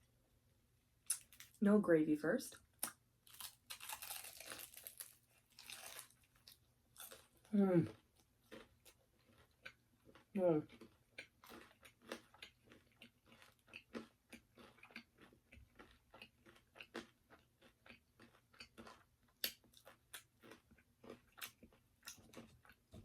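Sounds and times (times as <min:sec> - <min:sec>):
chewing crispy fried chicken: 0:02.8 - 0:23.0.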